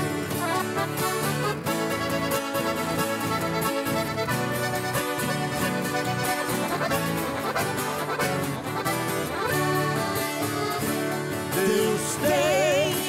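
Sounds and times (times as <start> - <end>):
accordion: 0.0 - 13.0
strummed acoustic guitar: 0.0 - 13.0.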